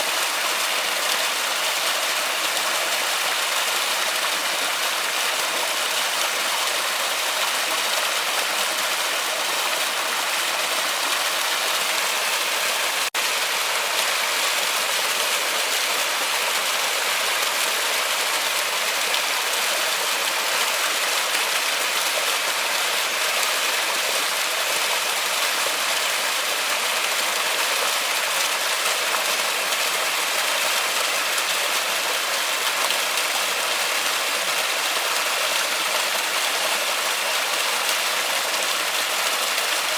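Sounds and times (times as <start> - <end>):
waterfall hissing: 0.0 - 39.9.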